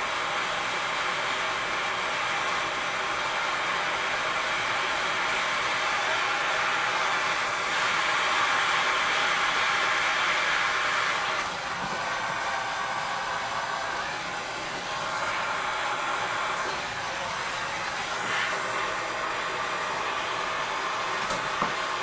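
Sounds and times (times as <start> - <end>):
torch flame hissing: 0.0 - 22.0.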